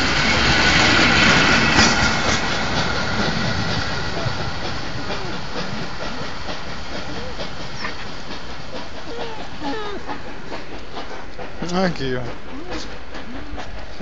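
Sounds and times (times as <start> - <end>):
steam train hissing and running: 0.0 - 14.0.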